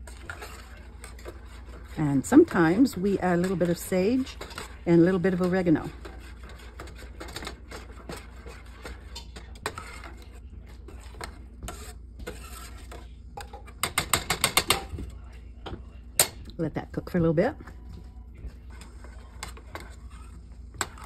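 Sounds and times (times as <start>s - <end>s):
metal spoon scraping saucepan: 0.0s - 15.0s, 18.5s - 21.0s.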